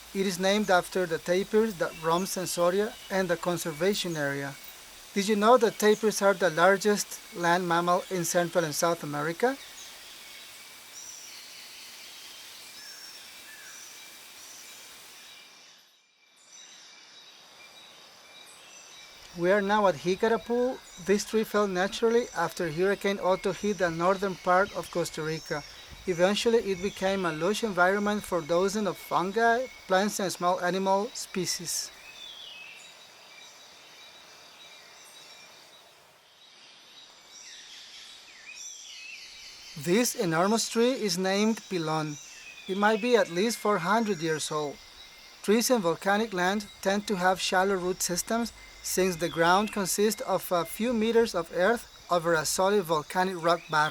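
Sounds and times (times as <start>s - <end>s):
birds calling: 0.0s - 15.3s, 19.0s - 36.1s, 36.8s - 53.9s
steady hiss: 0.0s - 53.9s.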